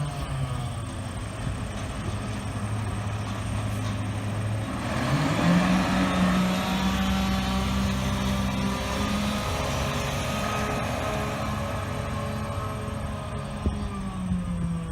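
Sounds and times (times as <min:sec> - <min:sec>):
truck engine revving: 0:00.0 - 0:14.9.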